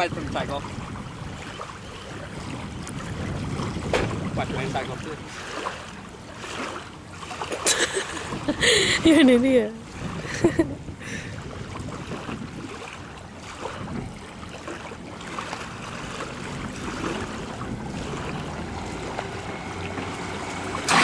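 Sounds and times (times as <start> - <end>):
wind on microphone: 0.0 - 7.0, 7.7 - 21.0
low engine hum: 0.0 - 21.0
waves lapping at shore: 0.0 - 21.0.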